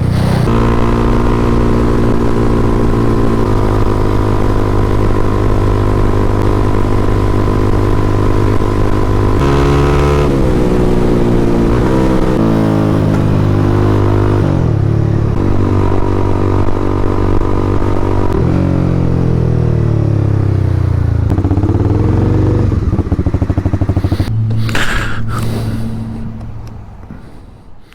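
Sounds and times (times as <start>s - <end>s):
motorcycle engine with gear changes: 0.0s - 27.8s.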